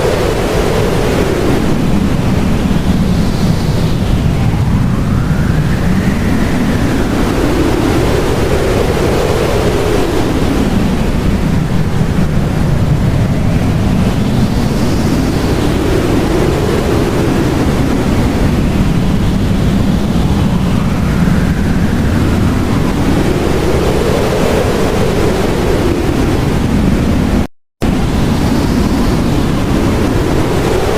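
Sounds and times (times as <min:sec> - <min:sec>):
blizzard wind rushing: 0:00.0 - 0:30.9
howling wind whistle: 0:00.0 - 0:30.9.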